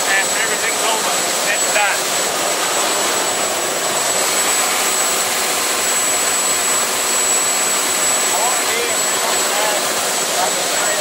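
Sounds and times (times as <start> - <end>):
boat engine and water roar: 0.0 - 11.0
thin high whine: 0.0 - 11.0.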